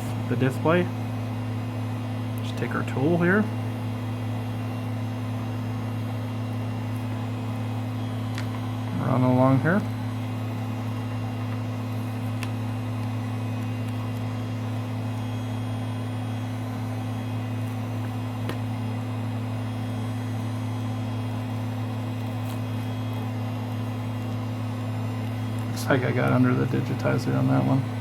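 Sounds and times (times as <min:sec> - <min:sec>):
low electrical motor hum: 0:00.0 - 0:28.0.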